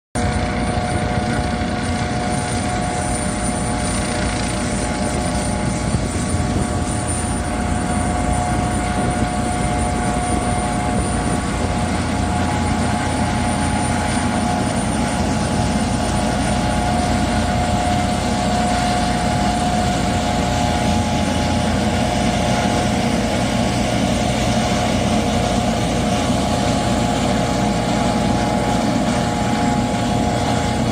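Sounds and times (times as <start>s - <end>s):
helicopter rotor whir: 0.2s - 30.9s
helicopter turbine whine: 0.2s - 30.9s.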